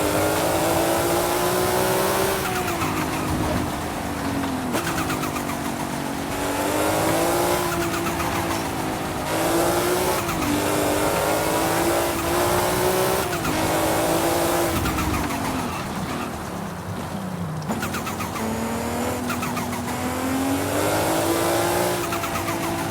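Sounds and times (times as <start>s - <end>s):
turbocharged engine revving: 0.0s - 22.9s.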